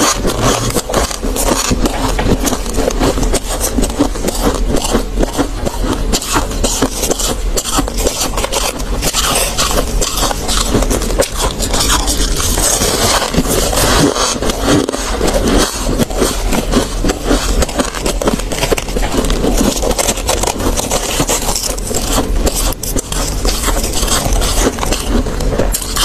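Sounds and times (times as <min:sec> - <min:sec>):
frost crunching: 0:00.0 - 0:26.0.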